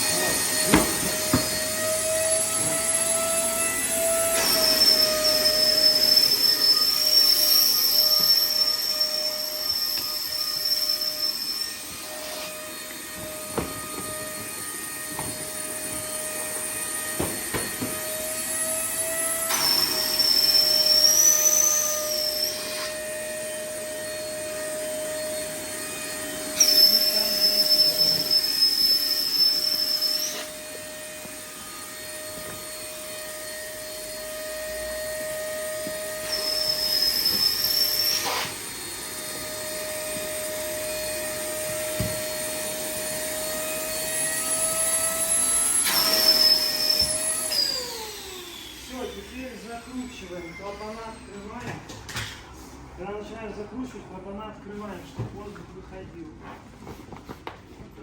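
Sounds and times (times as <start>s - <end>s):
electric air pump motor hum: 0.0s - 51.6s
high whine of air pump: 0.0s - 55.7s.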